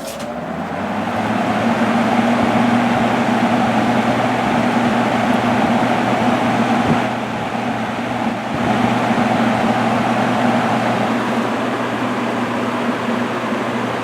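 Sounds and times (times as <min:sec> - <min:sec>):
box fan running: 0:00.0 - 0:14.0.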